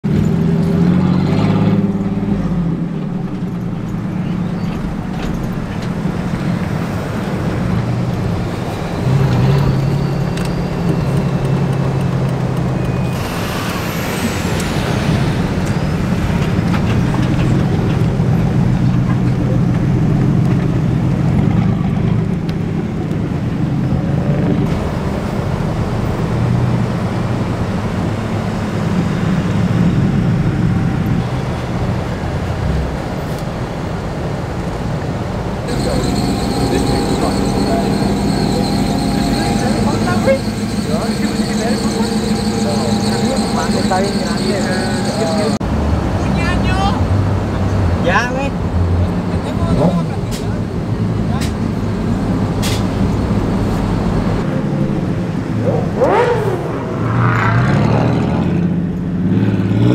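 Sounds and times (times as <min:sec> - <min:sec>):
car engine: 0:00.0 - 0:59.9
road noise inside car: 0:00.0 - 0:59.9
rush of noise: 0:00.4 - 0:20.1, 0:21.3 - 0:58.9.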